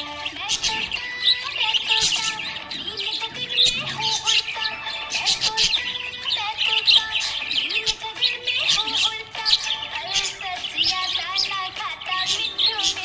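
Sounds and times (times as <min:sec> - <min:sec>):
budgerigars chirping and warbling: 0:00.0 - 0:13.0.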